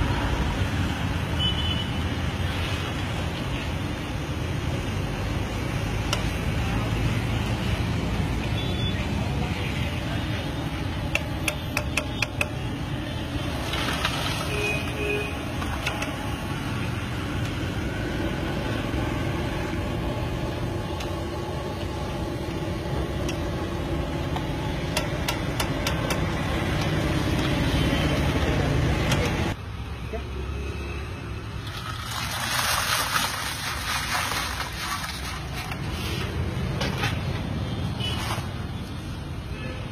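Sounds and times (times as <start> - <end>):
street traffic noise: 0.0 - 39.9.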